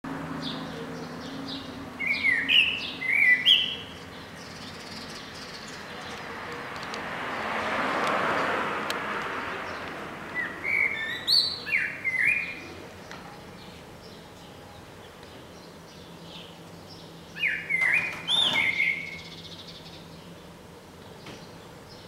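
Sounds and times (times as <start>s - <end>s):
blackbird singing: 0.4s - 6.3s, 9.6s - 22.0s.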